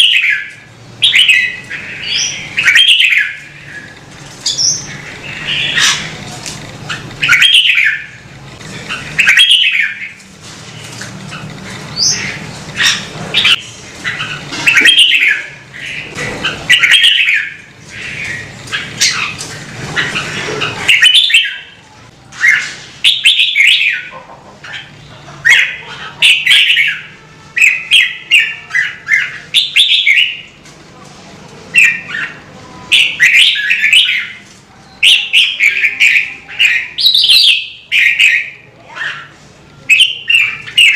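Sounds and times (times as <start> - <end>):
bird singing warbled phrases: 0.0 - 30.6, 31.7 - 40.9.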